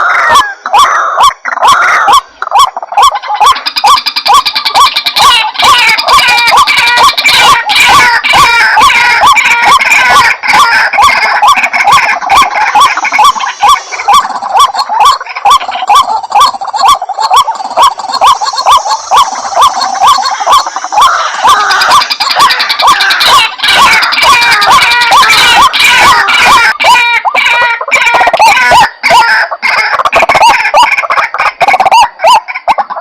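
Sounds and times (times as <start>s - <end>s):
bird calling with croaking notes: 0.0s - 33.0s.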